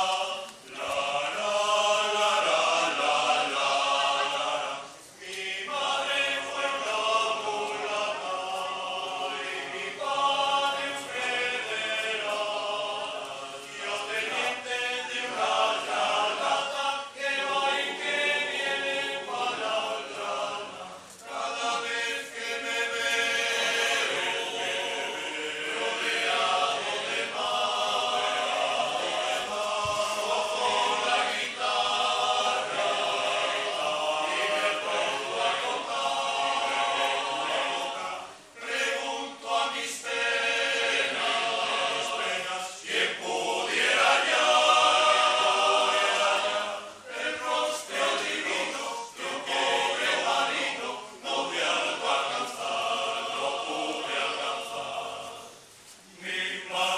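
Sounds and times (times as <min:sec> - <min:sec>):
choir singing a cappella: 0:00.0 - 0:56.9.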